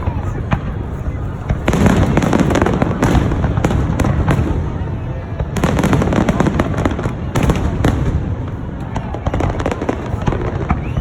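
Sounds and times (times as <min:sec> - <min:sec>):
firework bangs and crackling pops: 0:00.0 - 0:11.0.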